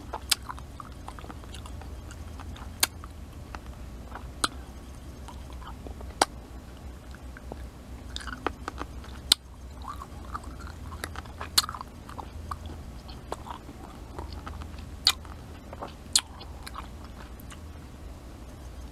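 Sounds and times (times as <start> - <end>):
wet chewing mouth sounds: 0.0 - 17.7.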